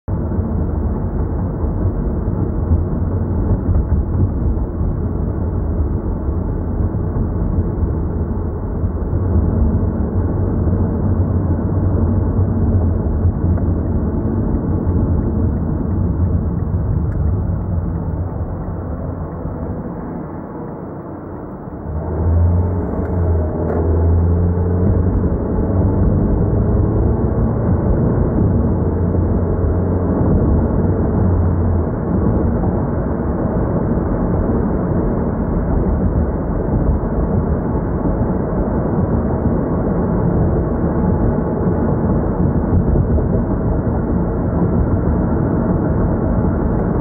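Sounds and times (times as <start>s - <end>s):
car engine and tyre noise: 0.0s - 47.0s.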